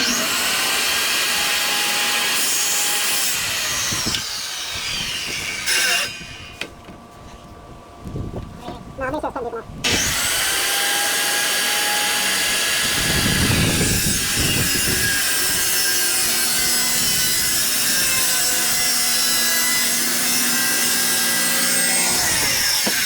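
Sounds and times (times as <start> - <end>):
electric saw cutting wood: 0.0 - 6.6, 9.8 - 23.0.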